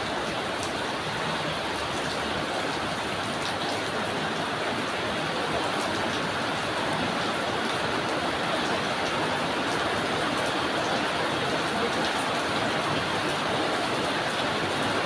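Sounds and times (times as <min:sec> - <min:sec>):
drizzling rain hiss: 0:00.0 - 0:15.0.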